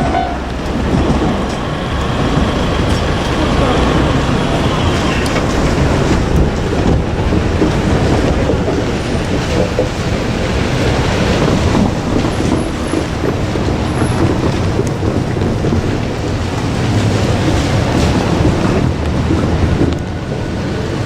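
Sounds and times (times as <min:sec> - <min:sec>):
electric train rumbling past: 0:00.0 - 0:21.0
wind buffeting microphone: 0:00.0 - 0:21.0.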